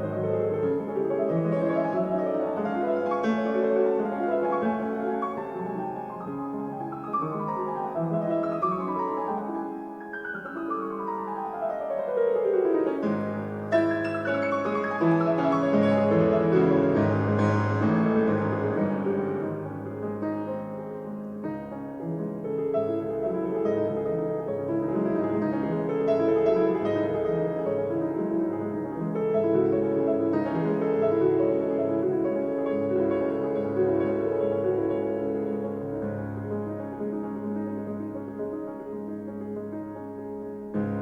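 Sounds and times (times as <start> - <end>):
piano music over loudspeakers: 0.0 - 41.0.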